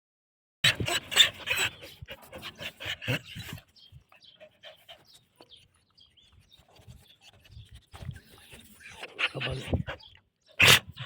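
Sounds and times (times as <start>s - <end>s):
dog panting: 0.7s - 11.0s.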